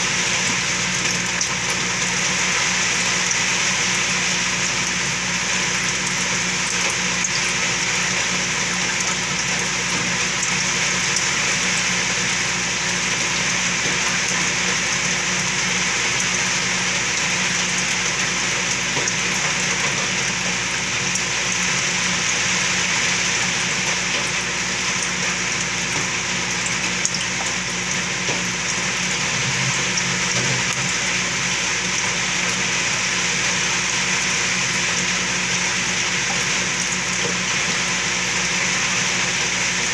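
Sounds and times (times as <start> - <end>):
bubbling water rushing: 0.0 - 39.9.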